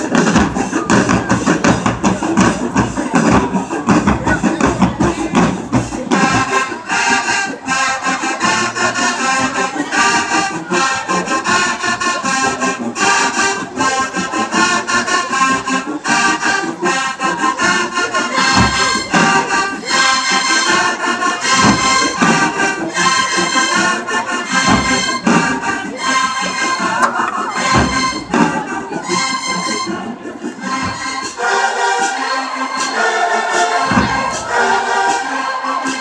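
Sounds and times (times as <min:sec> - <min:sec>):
steady drum beat: 0:00.0 - 0:32.2, 0:32.8 - 0:36.0
marching band brass chords: 0:00.0 - 0:36.0.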